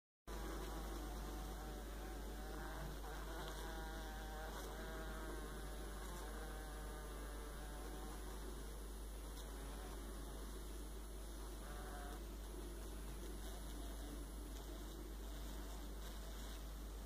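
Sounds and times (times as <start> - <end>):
fly wings buzzing: 0.3 - 17.0.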